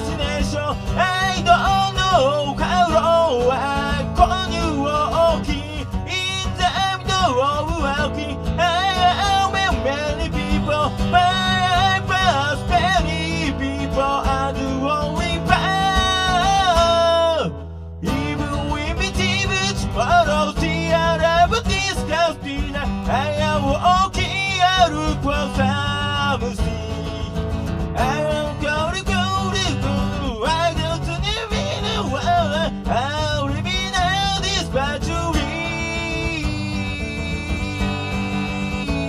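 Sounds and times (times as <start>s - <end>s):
acoustic guitar strumming: 0.0s - 39.0s
man singing: 0.0s - 39.0s.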